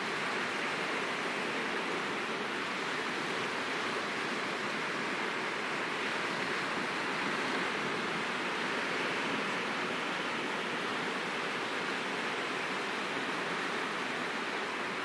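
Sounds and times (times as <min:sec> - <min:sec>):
surf hissing on shore: 0:00.0 - 0:15.0.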